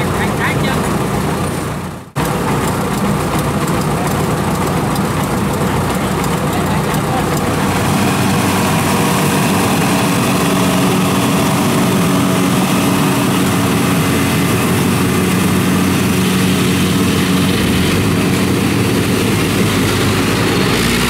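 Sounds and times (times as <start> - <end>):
combine harvester engine drone: 0.0 - 21.0
threshing drum rushing: 0.8 - 21.0.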